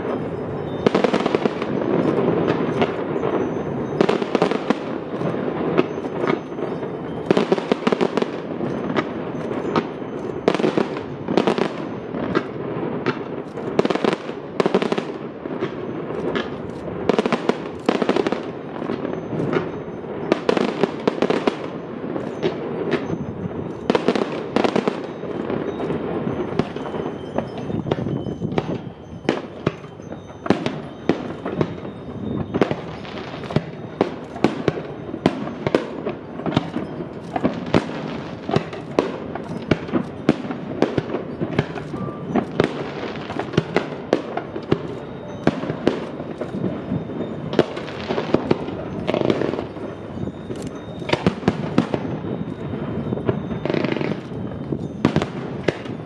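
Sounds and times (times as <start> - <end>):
firework shells bursting: 0.0 - 56.0
fireworks crackle: 0.0 - 56.0.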